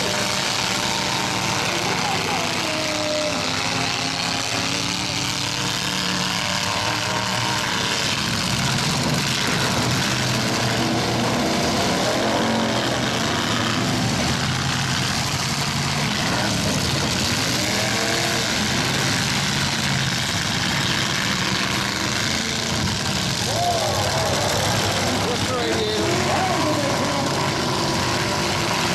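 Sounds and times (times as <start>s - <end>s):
truck engines revving: 0.0s - 28.9s.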